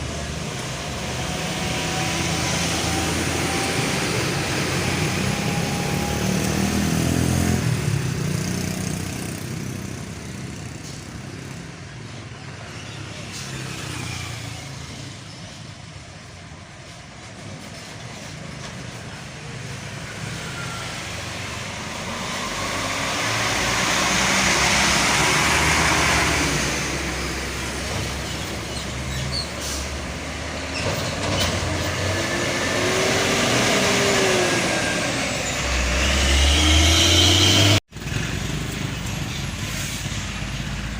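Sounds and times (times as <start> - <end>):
road vehicles driving past: 0.0 - 40.9.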